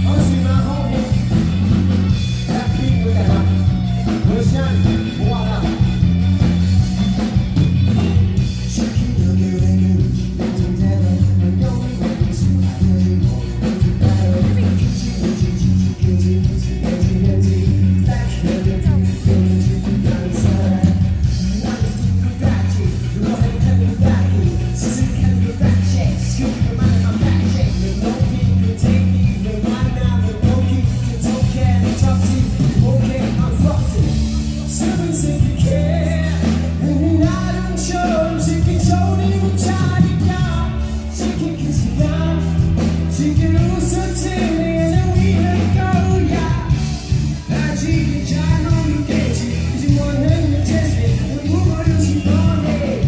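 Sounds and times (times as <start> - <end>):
drum kit beat: 0.0 - 53.0
guitar: 0.0 - 53.0
heavy bass line: 0.0 - 53.0
live rock band playing: 0.0 - 53.0
person singing: 0.0 - 53.0.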